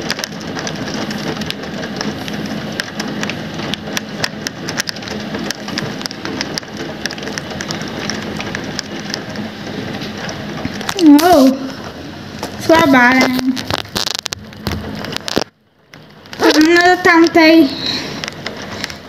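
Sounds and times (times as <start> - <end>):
raindrops tapping on surface: 0.0 - 19.0
steady rain falling: 0.0 - 19.0.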